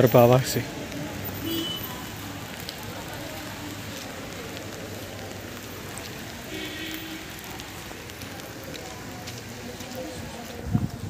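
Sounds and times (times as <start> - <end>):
rain falling on road: 0.0 - 11.0.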